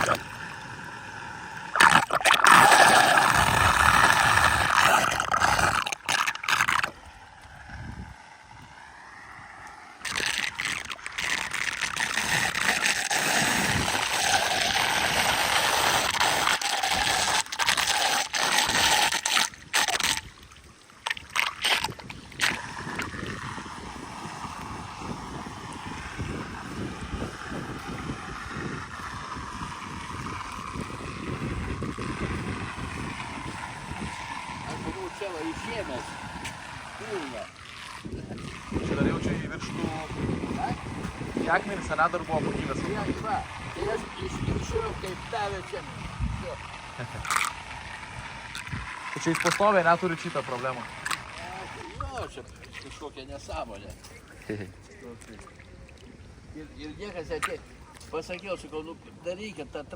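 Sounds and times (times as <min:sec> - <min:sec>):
water gurgling down storm drain: 0:00.0 - 0:59.9.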